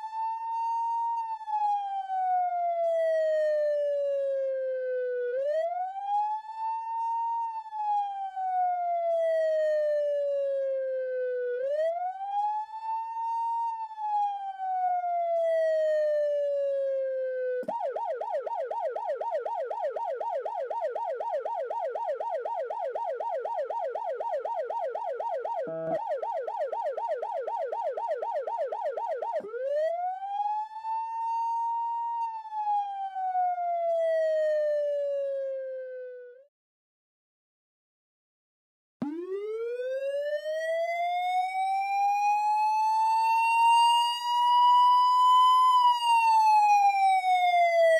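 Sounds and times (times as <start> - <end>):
police siren wailing: 0.0 - 36.5, 39.0 - 47.9.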